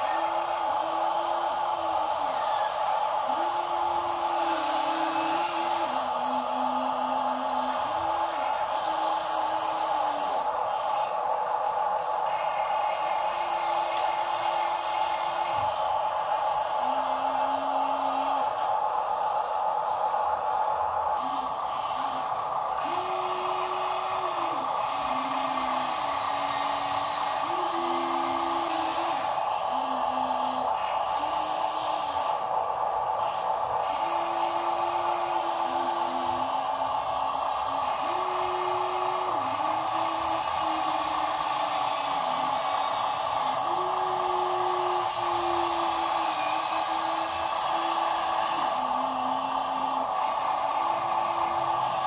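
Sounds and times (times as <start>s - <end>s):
toy electric motor whine: 0.0s - 52.0s.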